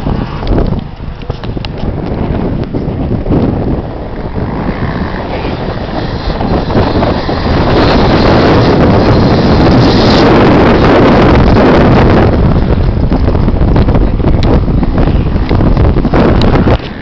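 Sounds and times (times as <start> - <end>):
motorcycle engines: 0.0 - 17.0
wind buffeting microphone: 0.0 - 17.0.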